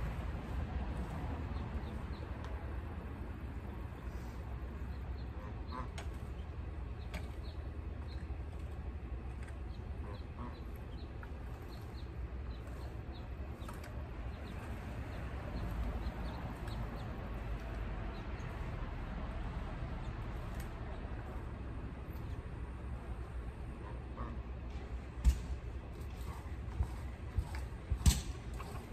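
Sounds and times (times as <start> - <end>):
low steady rumble: 0.0 - 28.9.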